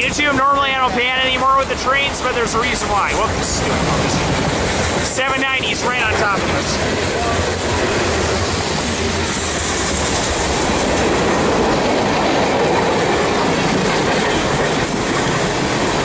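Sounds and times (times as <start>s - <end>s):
steel wheels running on rails: 0.0s - 16.0s.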